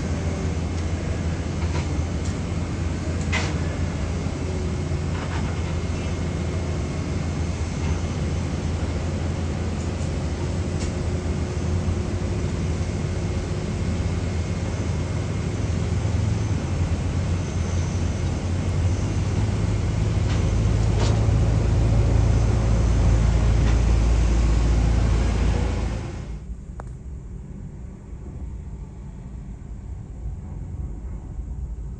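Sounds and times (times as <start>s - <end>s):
jet engines rumbling: 0.0s - 31.9s.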